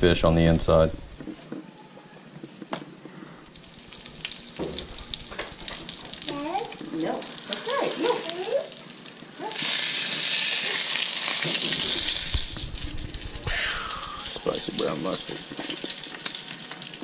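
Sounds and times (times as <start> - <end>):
fish frying in oil: 1.7 - 17.0.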